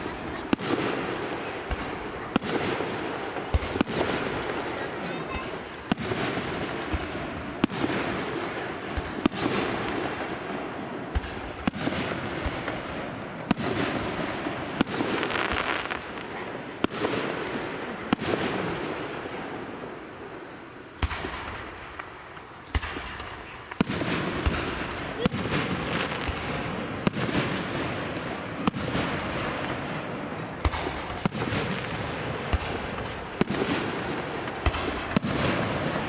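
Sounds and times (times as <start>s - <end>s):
firework crackle: 0.0s - 36.0s
firework shells bursting: 0.0s - 36.0s.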